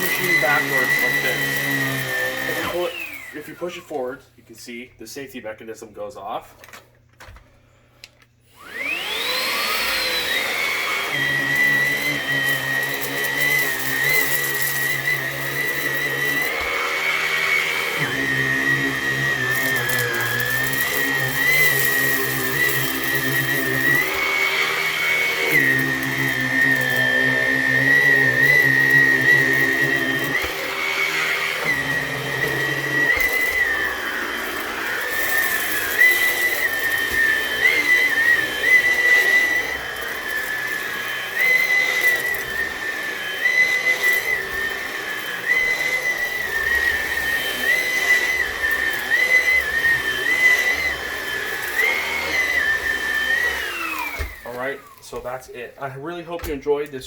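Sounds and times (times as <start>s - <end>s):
vacuum cleaner whining on rug: 0.0s - 4.2s, 8.5s - 55.3s.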